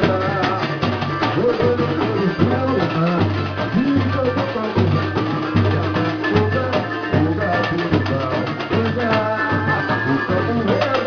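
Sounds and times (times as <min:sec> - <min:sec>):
fast percussion hits: 0:00.0 - 0:11.0
melodic line: 0:00.0 - 0:11.0.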